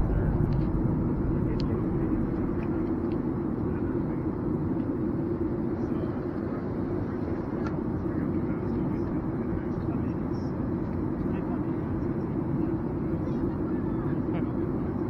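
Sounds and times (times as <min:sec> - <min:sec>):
airliner cabin rumble: 0:00.0 - 0:15.0
steady hum: 0:00.0 - 0:15.0.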